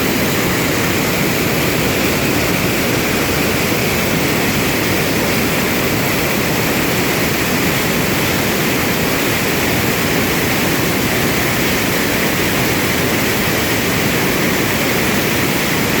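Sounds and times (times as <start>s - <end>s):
water rushing over falls: 0.0s - 16.0s.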